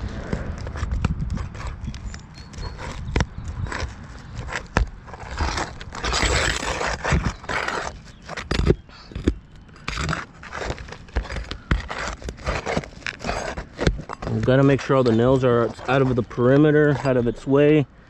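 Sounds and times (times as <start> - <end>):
roof tool scraping shingles: 0.0 - 17.8.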